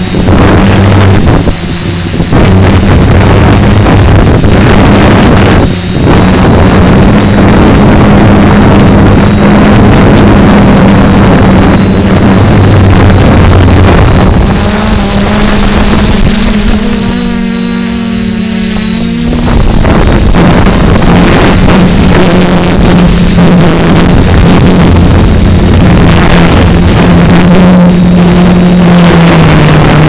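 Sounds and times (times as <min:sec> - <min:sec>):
drone motors humming: 0:00.0 - 0:30.0
wind buffeting microphone: 0:00.0 - 0:30.0.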